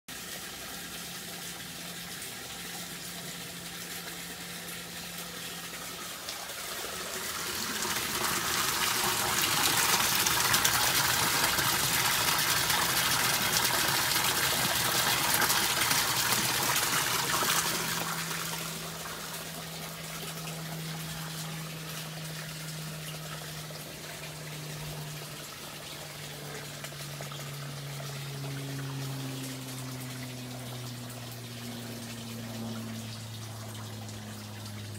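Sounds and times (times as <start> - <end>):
water splashing into tank: 5.6 - 34.9.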